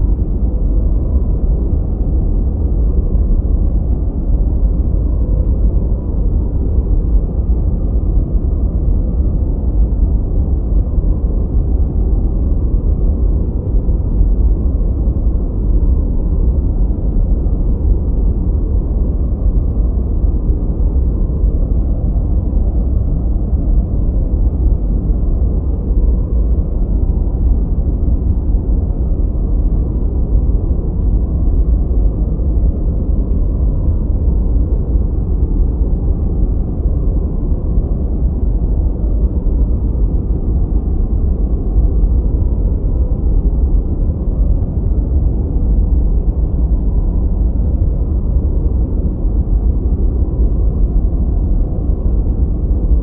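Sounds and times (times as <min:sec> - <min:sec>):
deep rumbling ambient noise: 0:00.0 - 0:53.0.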